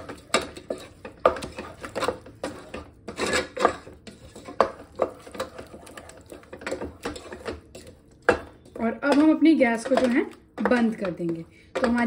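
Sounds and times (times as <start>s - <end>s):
spoon scraping a metal pot: 0.0s - 12.0s.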